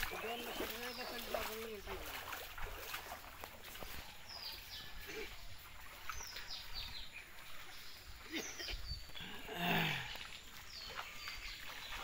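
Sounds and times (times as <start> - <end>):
birds chirping: 0.0 - 12.0
steady outdoor hiss: 0.0 - 12.0.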